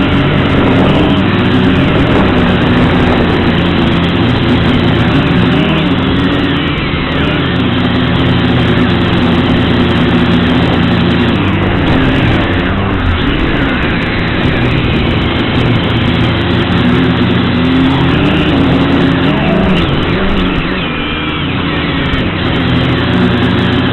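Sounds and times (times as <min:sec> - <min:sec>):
quadcopter propellers whining: 0:00.0 - 0:23.9.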